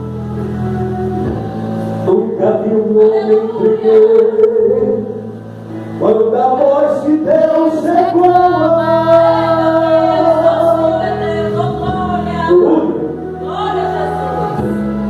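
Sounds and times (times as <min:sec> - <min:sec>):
congregation singing gospel: 0:00.0 - 0:15.0.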